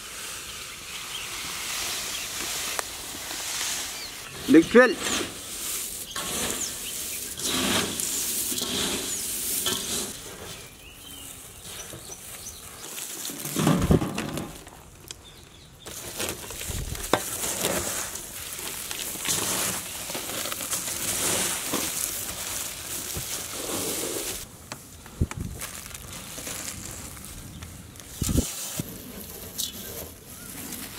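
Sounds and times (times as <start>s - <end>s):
crunchy rustle of bread crumbs: 0.8s - 13.7s, 15.8s - 24.5s, 25.4s - 30.9s.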